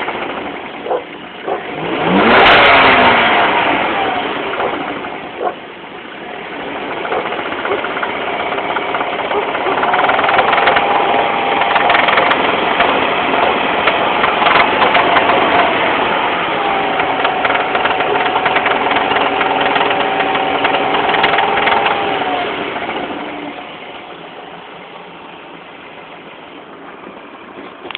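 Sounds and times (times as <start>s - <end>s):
engine running with loud knock: 0.0s - 27.9s.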